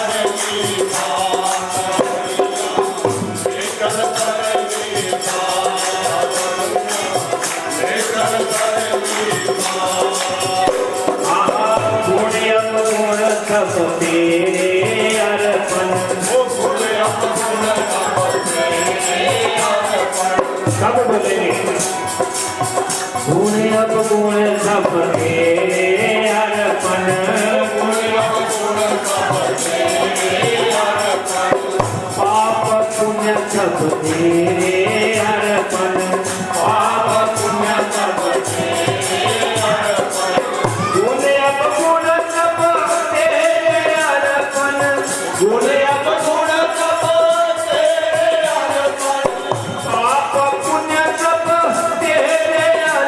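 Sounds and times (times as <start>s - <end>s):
devotional melody: 0.0s - 53.0s
high percussion strokes: 0.0s - 53.0s.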